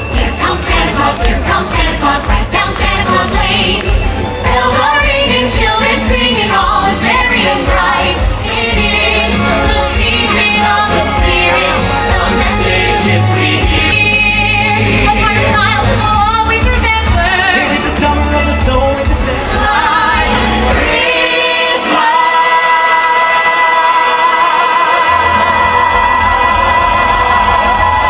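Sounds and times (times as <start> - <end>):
singers over pop backing track: 0.0 - 28.0.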